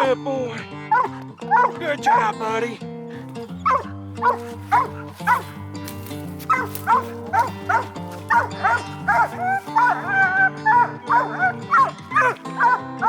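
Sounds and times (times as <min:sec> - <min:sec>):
background music with held notes: 0:00.0 - 0:13.0
hound barking: 0:00.9 - 0:02.4, 0:03.1 - 0:13.0.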